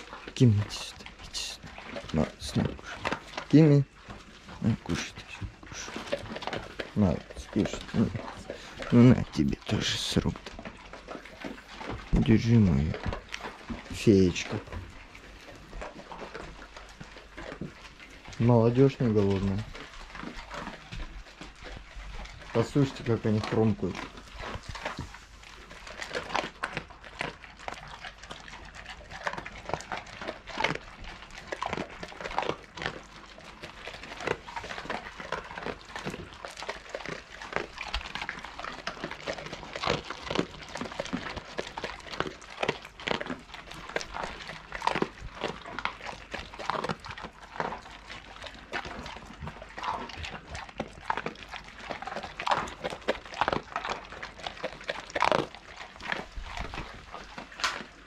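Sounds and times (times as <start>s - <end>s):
dogs crunching dry kibble: 0.0s - 58.0s.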